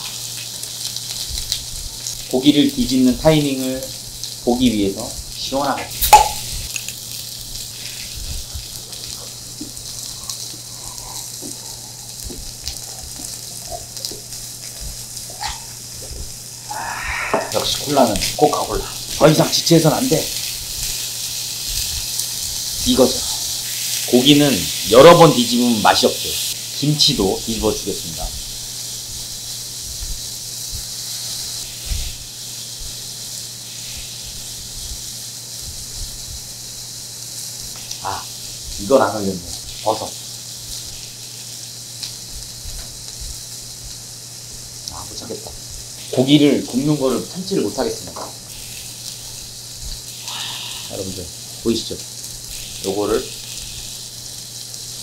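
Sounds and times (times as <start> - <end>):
meat sizzling on grill plate: 0.0 - 55.0.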